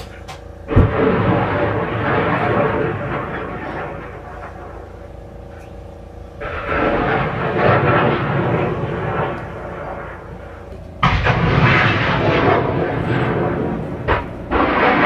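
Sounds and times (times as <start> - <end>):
heavy vehicle roar: 0.7 - 5.7, 6.3 - 15.0.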